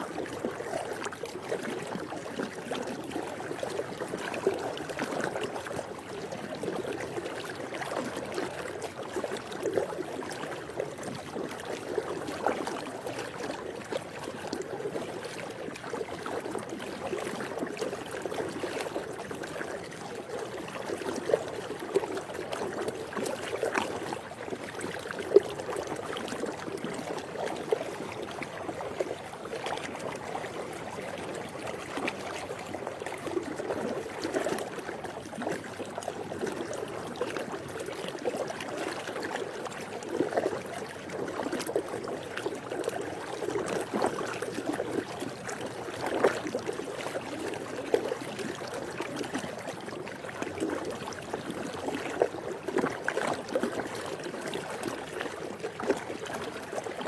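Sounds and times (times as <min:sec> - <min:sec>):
pool water lapping: 0:00.0 - 0:57.0
water splashes: 0:00.0 - 0:57.0.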